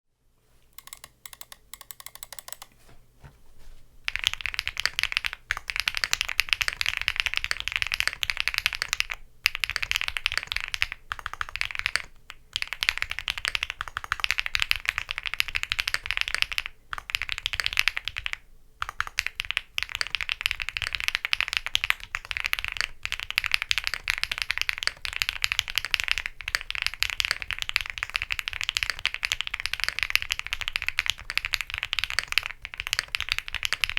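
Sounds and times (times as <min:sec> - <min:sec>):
mechanical keyboard typing: 0:00.8 - 0:02.8, 0:04.1 - 0:33.9.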